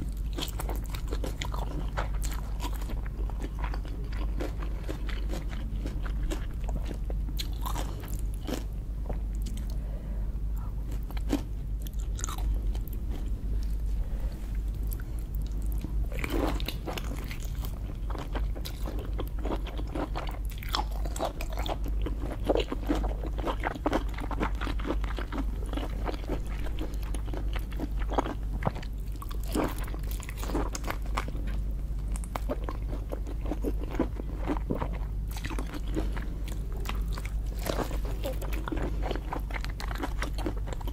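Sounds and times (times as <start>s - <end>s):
crunching and wet chewing: 0.0s - 9.8s, 10.6s - 40.9s
steady low hum: 0.0s - 40.9s.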